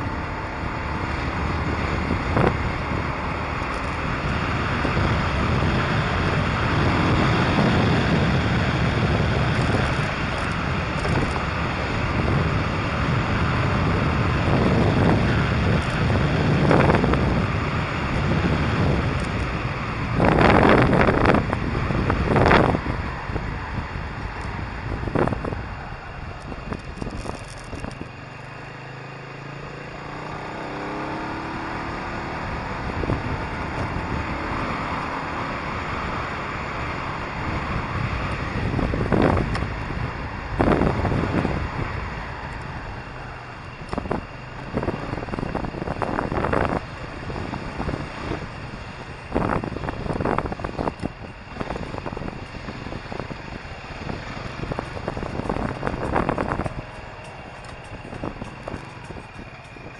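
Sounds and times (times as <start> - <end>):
wind buffeting microphone: 0.0 - 28.8, 29.6 - 59.9
motorcycle engine: 0.0 - 59.9
wind noise: 0.0 - 59.9.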